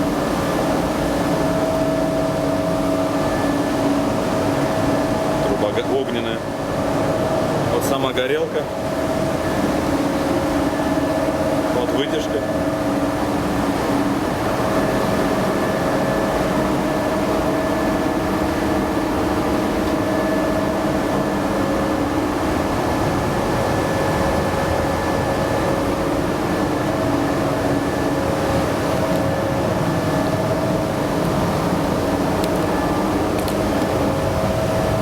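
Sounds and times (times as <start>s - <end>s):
exhaust fan rushing: 0.0s - 35.0s
heater burner roaring: 0.0s - 35.0s.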